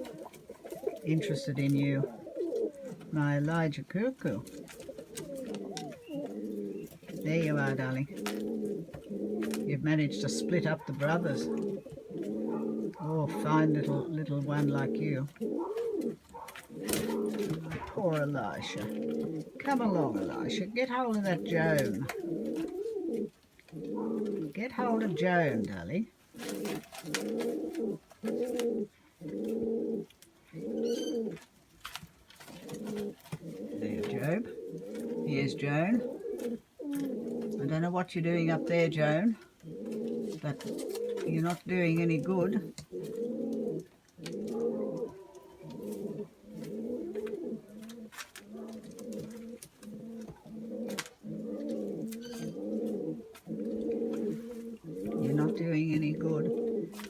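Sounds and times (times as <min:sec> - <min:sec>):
dove cooing: 0:00.0 - 0:31.5, 0:32.3 - 0:57.0.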